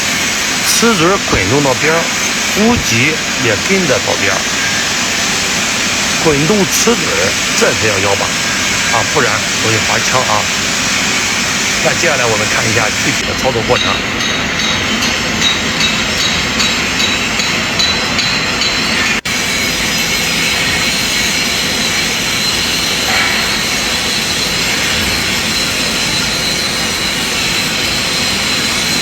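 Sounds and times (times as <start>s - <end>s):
welding arc hissing: 0.0s - 29.0s.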